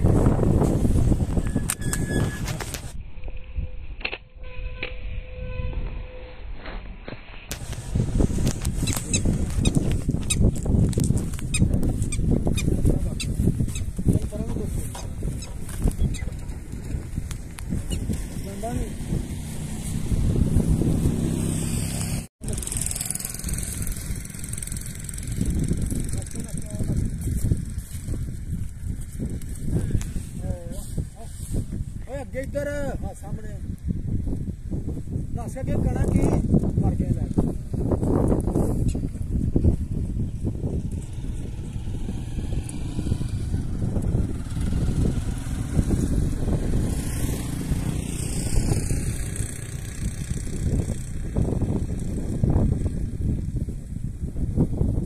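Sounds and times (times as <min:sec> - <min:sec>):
wind buffeting microphone: 0:00.0 - 0:04.0, 0:07.5 - 0:55.0
engine rumbling: 0:00.0 - 0:32.7, 0:37.3 - 0:55.0.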